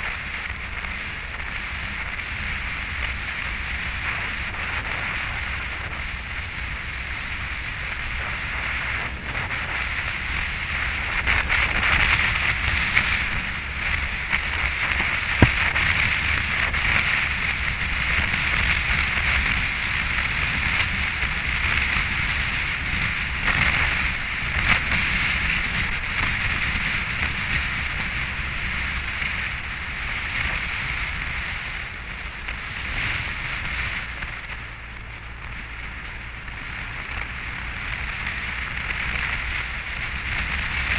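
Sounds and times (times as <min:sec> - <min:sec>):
motorcycle engine drone: 0:00.0 - 0:40.9
road noise on wet road: 0:00.0 - 0:40.9
wind rushing over microphone: 0:00.0 - 0:40.9.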